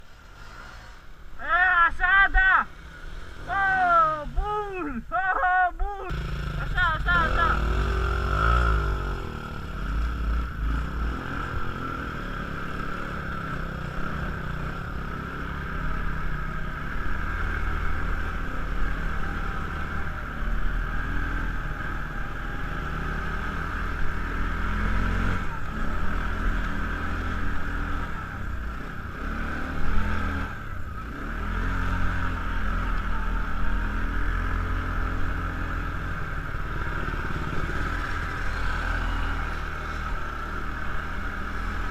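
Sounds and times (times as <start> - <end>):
atv engine rumbling: 0.0 - 41.9.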